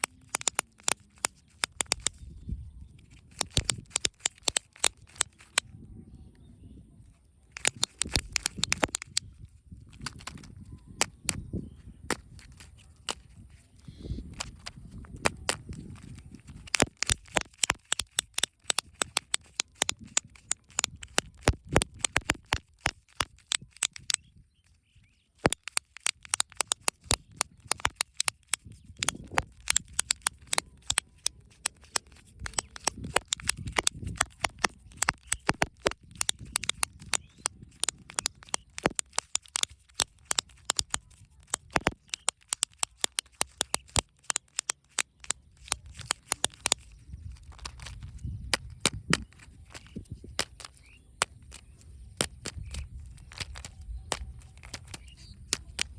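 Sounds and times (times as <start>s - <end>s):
crisp clicks of packaging handled: 0.0s - 5.7s, 7.5s - 55.9s.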